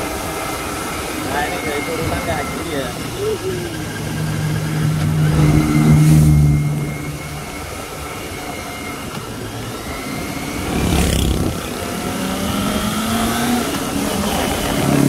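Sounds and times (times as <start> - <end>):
motorcycle engine running: 0.0 - 15.0
rush of noise: 0.0 - 15.0.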